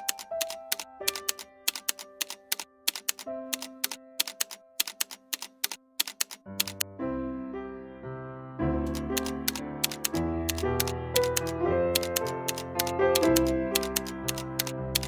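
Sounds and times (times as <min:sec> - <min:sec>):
typewriter keys clacking: 0:00.0 - 0:06.9, 0:08.8 - 0:15.0
soft background music: 0:00.0 - 0:15.0.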